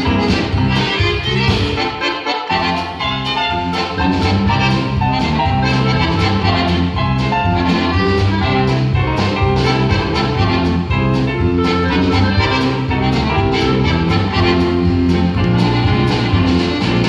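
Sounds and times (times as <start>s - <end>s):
lively instrumental ensemble: 0.0s - 17.0s.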